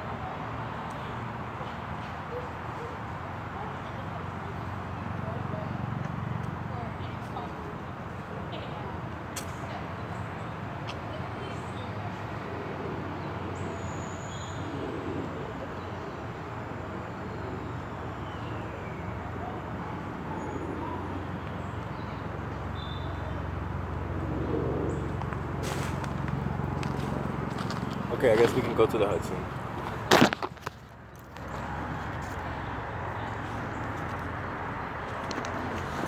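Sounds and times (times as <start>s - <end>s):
traffic hum: 0.0s - 36.0s.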